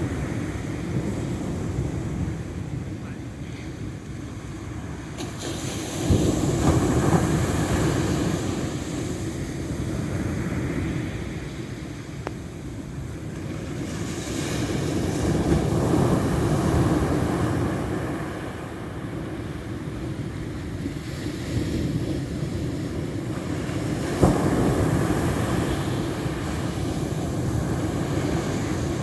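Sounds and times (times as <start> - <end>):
ocean waves breaking: 0.0 - 29.0.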